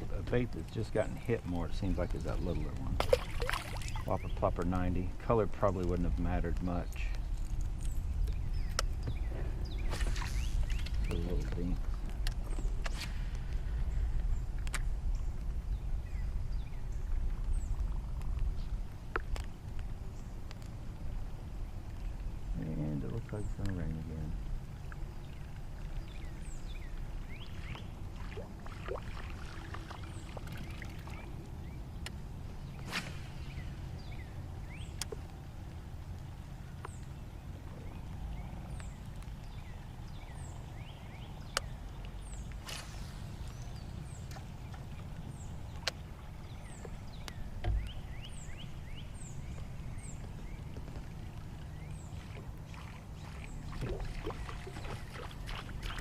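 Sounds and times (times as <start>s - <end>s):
birds chirping: 0.0s - 56.0s
steady low rumble: 0.0s - 56.0s.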